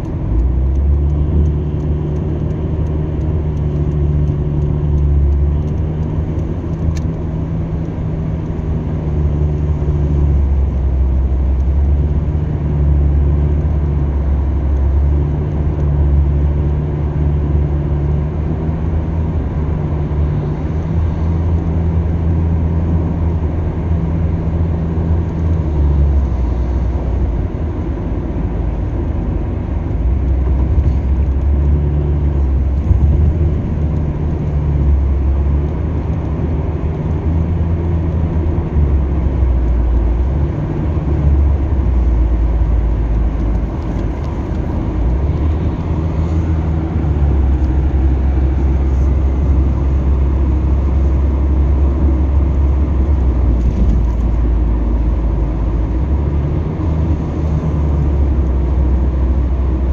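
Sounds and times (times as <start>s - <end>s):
vehicle engine and tyres rumbling: 0.0s - 59.9s.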